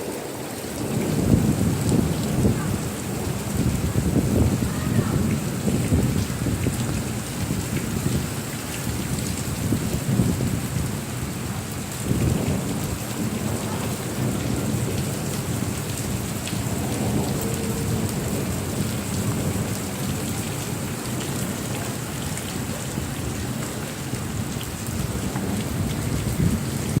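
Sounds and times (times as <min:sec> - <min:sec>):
rolling thunder: 0:00.0 - 0:21.6, 0:22.8 - 0:27.0
heavy rain falling: 0:00.0 - 0:27.0.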